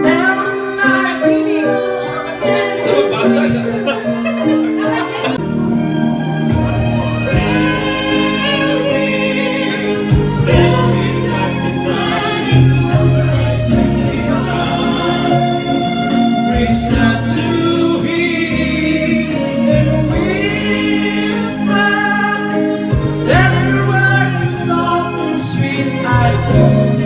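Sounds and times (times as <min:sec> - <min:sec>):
song with sung vocals: 0:00.0 - 0:27.0.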